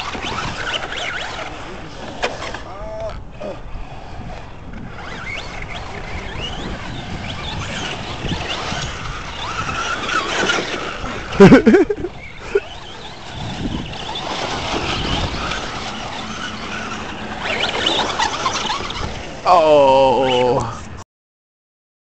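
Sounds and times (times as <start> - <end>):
rc truck motor whine: 0.0 - 20.6
tyres on dirt: 0.0 - 20.8.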